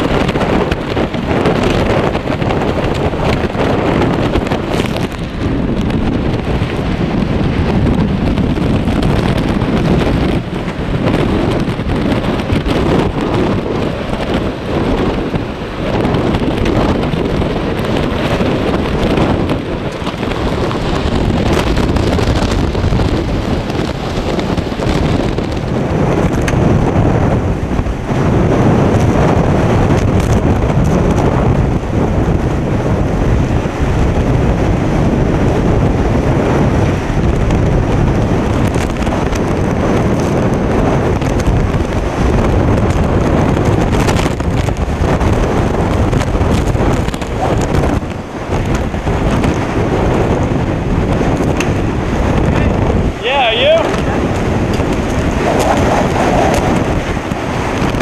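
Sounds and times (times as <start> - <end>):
driving rain: 0.0 - 58.0
strong wind buffeting microphone: 0.0 - 58.0.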